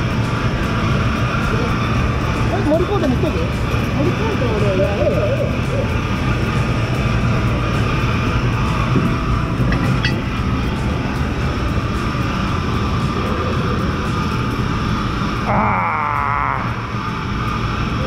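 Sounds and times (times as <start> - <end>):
ship machinery low drone: 0.0 - 18.0.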